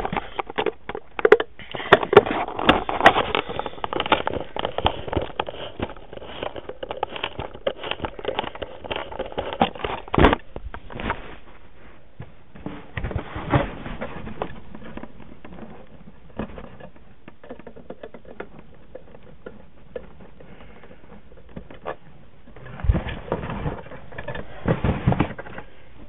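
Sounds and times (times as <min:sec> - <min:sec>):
cardboard rustling: 0:00.0 - 0:25.8.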